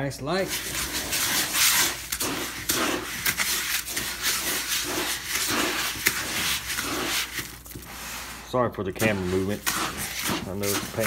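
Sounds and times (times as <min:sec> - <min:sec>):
hand mixing feed in plastic bucket: 0:00.2 - 0:11.0.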